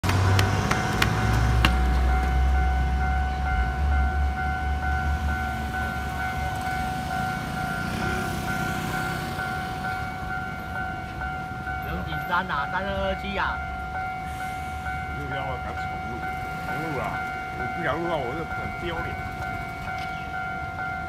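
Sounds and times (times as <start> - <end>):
traffic engine rumble: 0.0 - 21.0
level crossing warning bell: 0.6 - 21.0.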